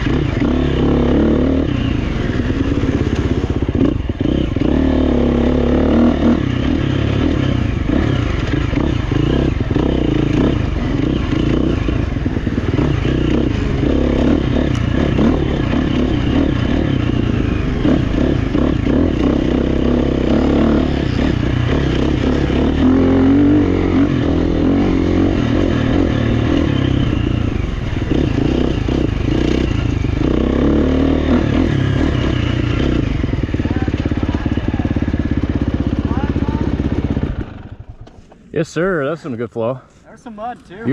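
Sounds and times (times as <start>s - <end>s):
dirt bike engine revving: 0.0s - 39.2s.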